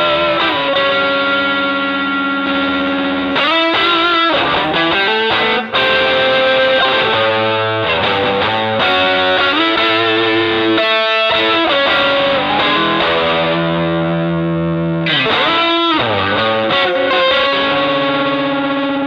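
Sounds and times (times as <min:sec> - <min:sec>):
electric guitar notes and chords: 0:00.0 - 0:19.0.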